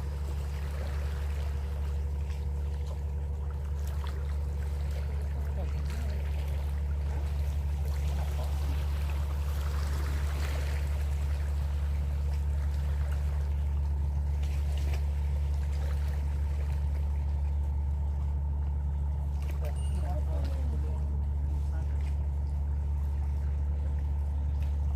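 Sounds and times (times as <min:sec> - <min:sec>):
boat engine droning: 0:00.0 - 0:24.9
faint trickling water: 0:00.0 - 0:24.9.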